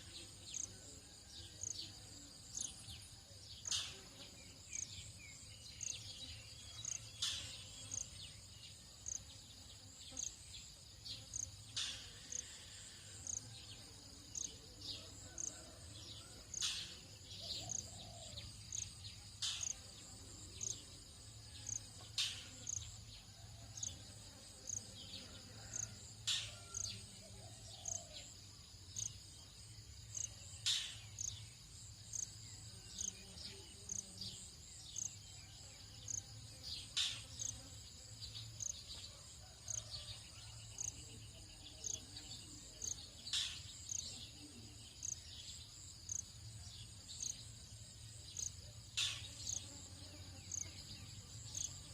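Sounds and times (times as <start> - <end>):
insect chirp: 0.0 - 51.9
insects buzzing: 0.0 - 51.9.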